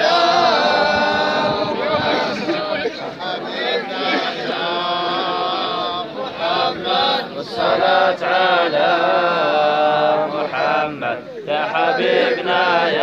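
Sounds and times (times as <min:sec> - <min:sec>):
men chanting devotional poem: 0:00.0 - 0:13.0.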